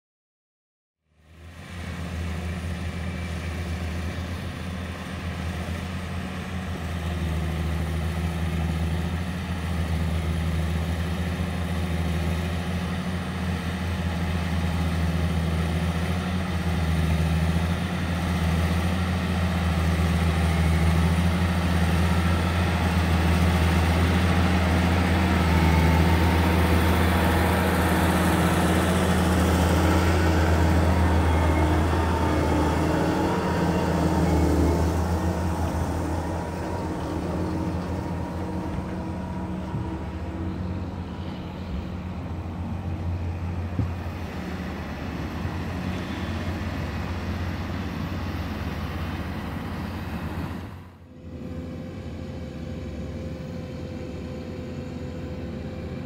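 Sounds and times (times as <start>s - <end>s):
tractor diesel engine under load: 1.2s - 56.0s.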